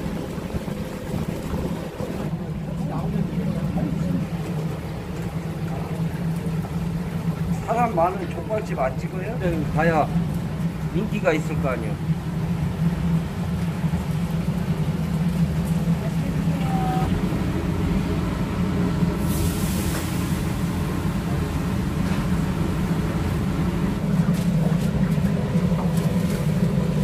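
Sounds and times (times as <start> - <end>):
street ambience rumble: 0.0 - 27.0.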